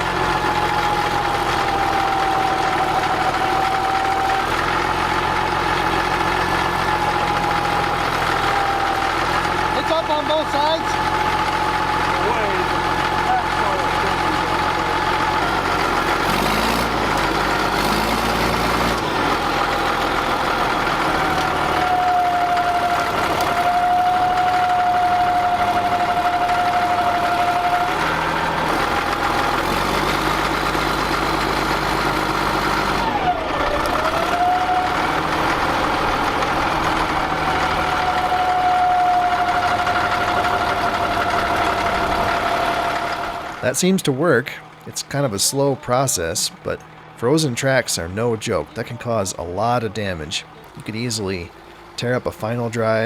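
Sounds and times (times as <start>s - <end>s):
diesel engine running: 0.0s - 53.0s
engine whine: 0.0s - 53.0s.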